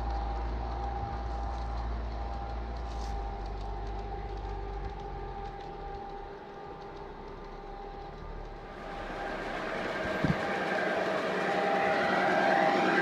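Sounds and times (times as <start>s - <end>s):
faint whine: 0.0s - 13.0s
model train rumbling on track: 0.0s - 13.0s.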